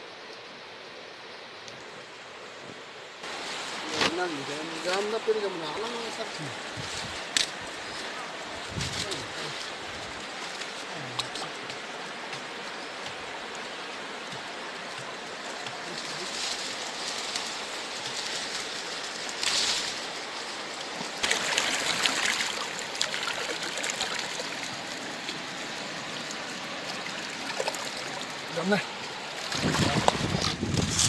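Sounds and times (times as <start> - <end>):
stream water running: 0.0 - 31.0
water sloshing and splashing: 3.2 - 31.0.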